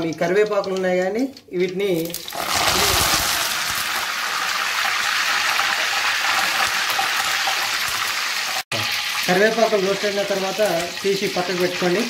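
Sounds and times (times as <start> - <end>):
leaves sizzling in hot oil: 1.8 - 12.0.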